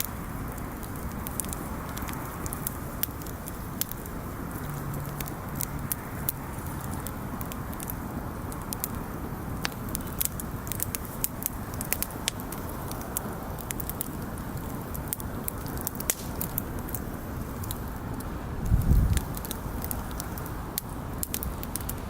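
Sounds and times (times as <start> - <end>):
burning wood popping: 0.0 - 22.0
campfire crackling: 0.0 - 22.0.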